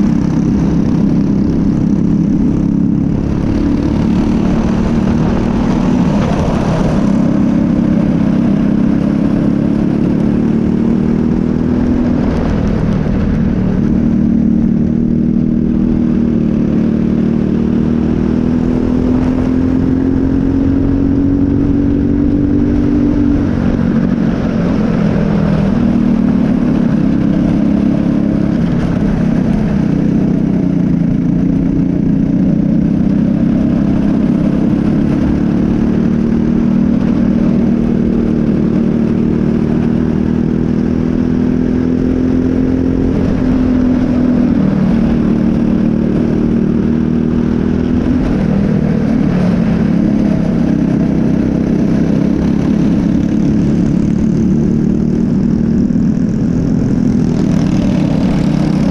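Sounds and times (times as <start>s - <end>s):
kart engine racing: 0.0s - 58.9s.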